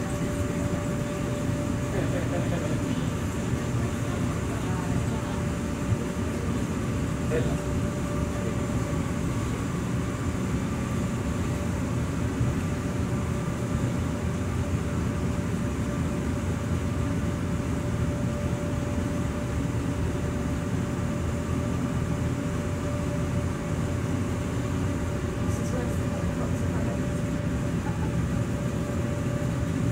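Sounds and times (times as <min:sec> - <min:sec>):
ventilation rumble: 0:00.0 - 0:29.9.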